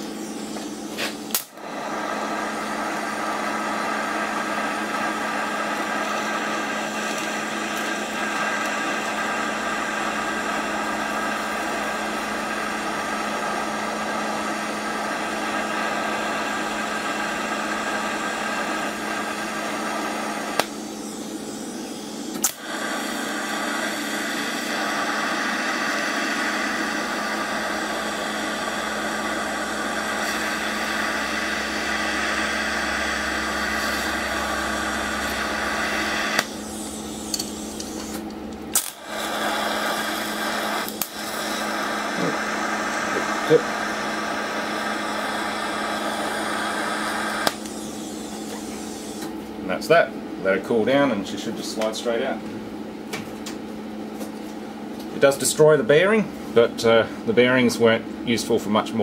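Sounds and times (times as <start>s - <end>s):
constant hum: 0.0s - 59.0s
welding arc hiss and buzz: 0.0s - 59.0s.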